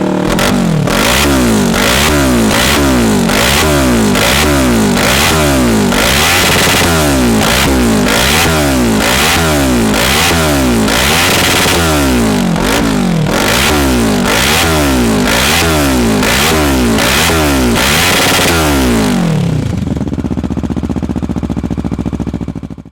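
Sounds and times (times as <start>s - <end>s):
motorcycle engine idling: 0.0s - 22.9s
motorcycle engine revving: 0.0s - 22.9s.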